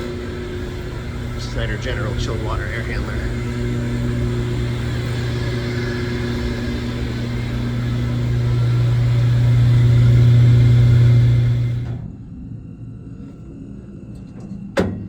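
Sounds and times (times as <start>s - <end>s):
blower motor humming: 0.0s - 14.1s.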